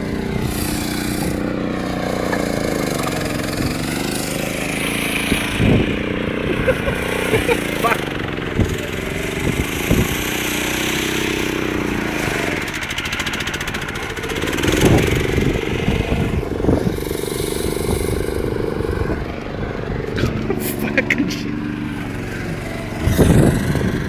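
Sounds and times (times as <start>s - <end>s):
go-kart engine revving: 0.0s - 24.0s.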